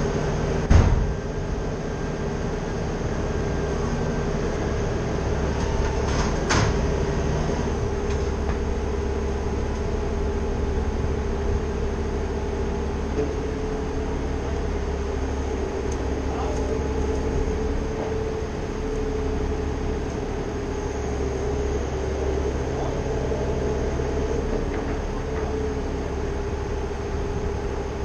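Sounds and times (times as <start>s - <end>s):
heavy engine running: 0.0s - 28.0s.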